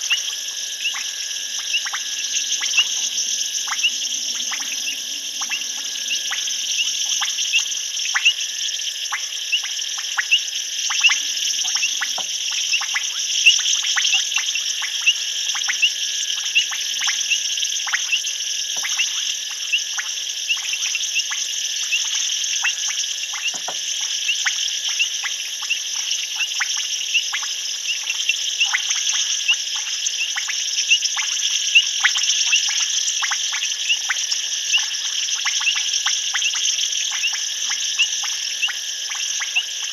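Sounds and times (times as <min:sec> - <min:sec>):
high-pitched insect trilling: 0:00.0 - 0:39.9
sharp frog calls: 0:00.0 - 0:39.9.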